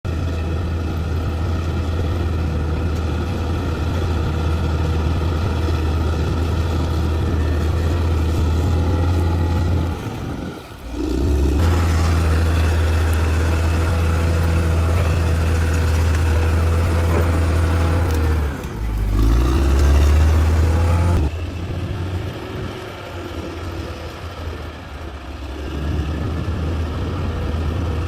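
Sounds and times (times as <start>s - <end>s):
diesel engine deep hum: 0.0s - 28.0s.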